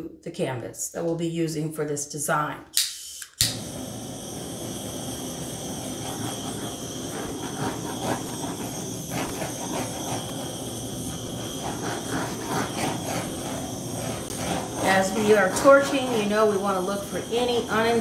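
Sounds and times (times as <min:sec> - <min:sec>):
butane torch hissing: 0:02.8 - 0:18.0.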